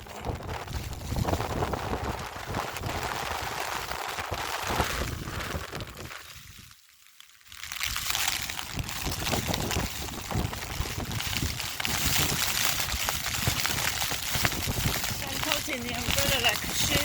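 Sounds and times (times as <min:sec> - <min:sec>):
wind buffeting microphone: 0:00.0 - 0:06.6, 0:07.8 - 0:17.0
rain pattering on an umbrella: 0:00.0 - 0:17.0.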